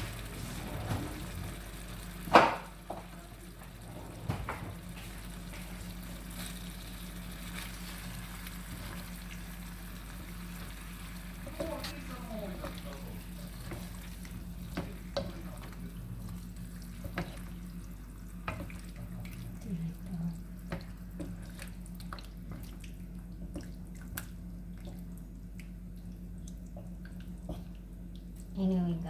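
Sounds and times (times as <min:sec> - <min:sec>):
water running into sink: 0:00.0 - 0:06.8, 0:07.4 - 0:25.1
steady low hum: 0:00.0 - 0:29.0.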